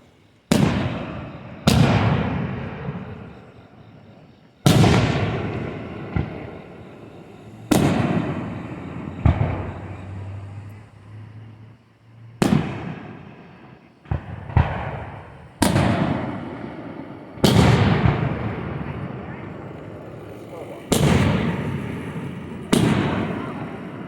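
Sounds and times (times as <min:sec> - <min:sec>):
fireworks bursting: 0:00.0 - 0:24.0
rumbling echo: 0:04.7 - 0:24.0.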